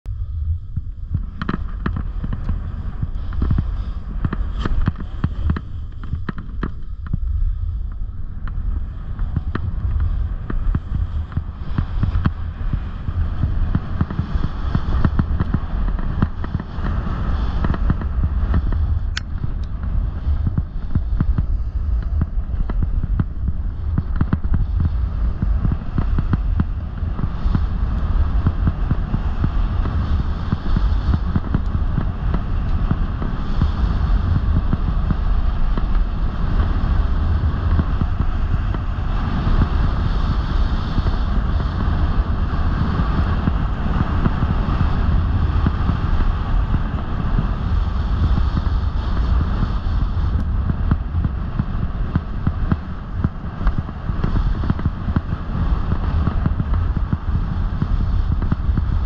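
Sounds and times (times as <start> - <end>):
wind buffeting microphone: 0.0 - 59.0
snowboard scraping over snow: 0.1 - 59.0.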